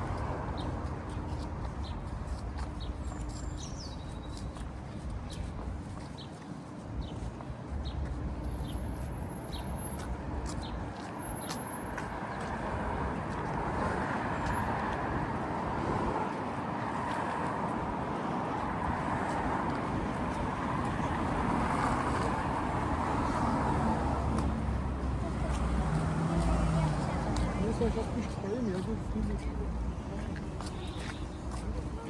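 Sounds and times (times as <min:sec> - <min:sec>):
footsteps on pavement: 0:00.0 - 0:32.0
street traffic: 0:00.0 - 0:32.0.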